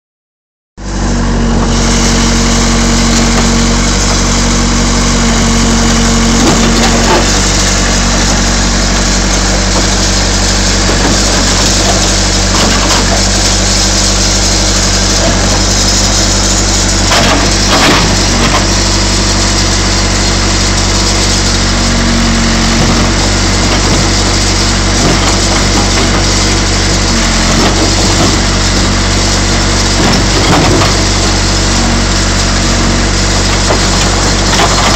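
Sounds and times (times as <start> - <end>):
diesel engine running under load: 0.8 - 34.9
steel cracking and crunching: 1.6 - 34.9.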